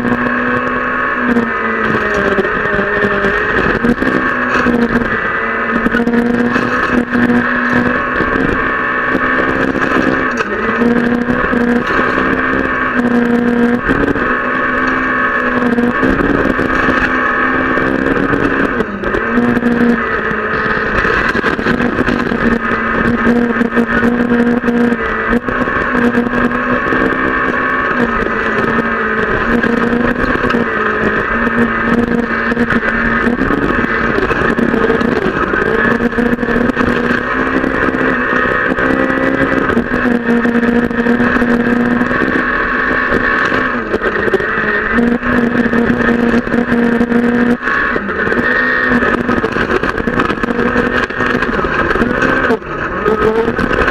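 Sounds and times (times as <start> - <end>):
gravel knocks and rattles: 0.0 - 53.9
rally car engine through gear changes: 0.0 - 53.9.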